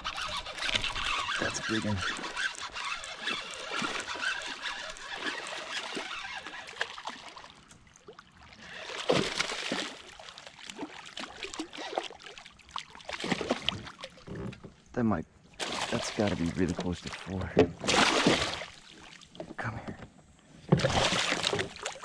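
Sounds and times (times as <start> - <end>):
fish splashing in water: 0.0 - 14.3, 15.6 - 19.3, 20.8 - 22.0.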